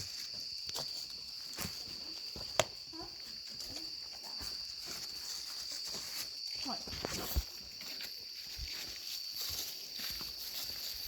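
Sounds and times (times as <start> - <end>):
footsteps: 0.0 - 11.0
insects chirring: 0.0 - 11.0.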